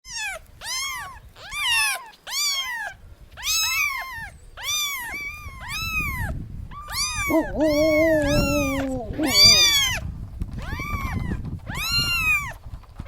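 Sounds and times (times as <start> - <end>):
cat meowing: 0.1 - 10.0, 10.6 - 12.5.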